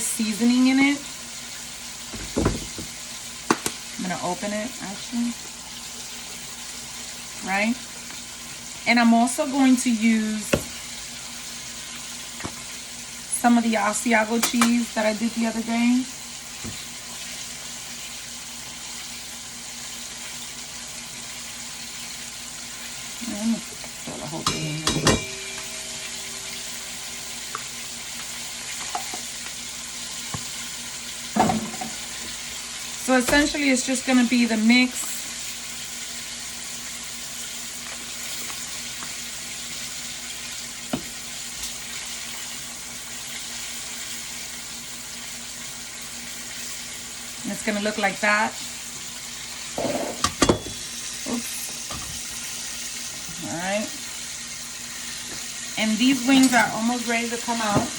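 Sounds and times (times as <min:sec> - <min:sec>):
chicken wings sizzling in oil: 0:00.0 - 0:57.9.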